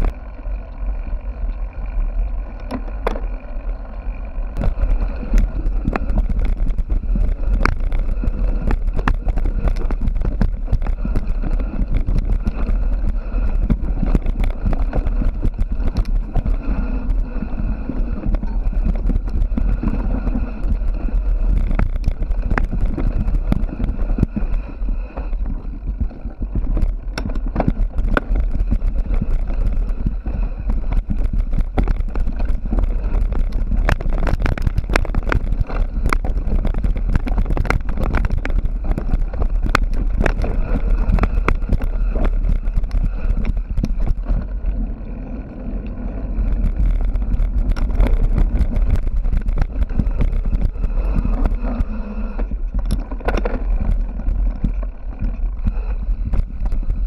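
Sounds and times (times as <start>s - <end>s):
bike rattling over bumps: 0.0s - 57.0s
wind rumble on microphone: 0.0s - 57.0s.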